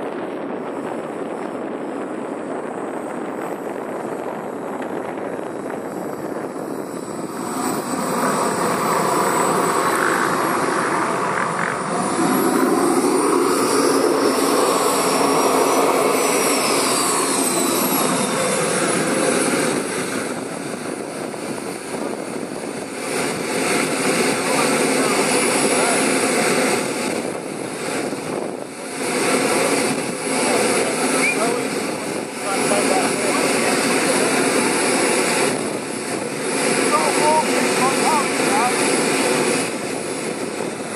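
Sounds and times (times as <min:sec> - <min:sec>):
jet turbine rush and whine: 0:00.0 - 0:40.9.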